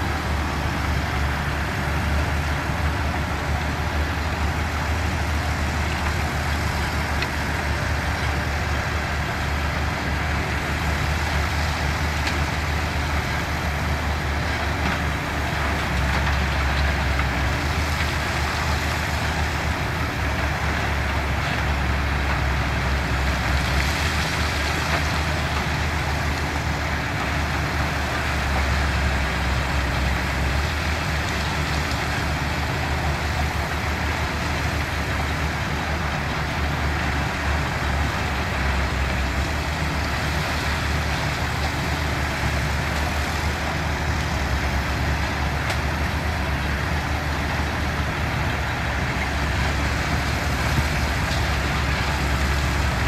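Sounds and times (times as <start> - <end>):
diesel machinery engines droning: 0.0 - 53.0.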